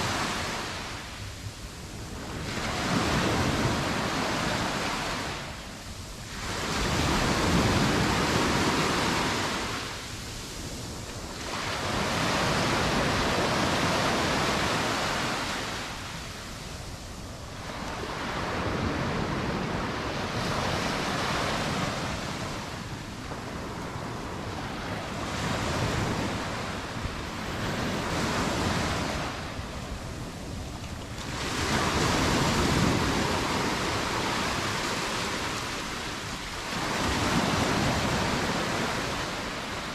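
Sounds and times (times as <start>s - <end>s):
surf breaking on beach: 6.2s - 39.9s.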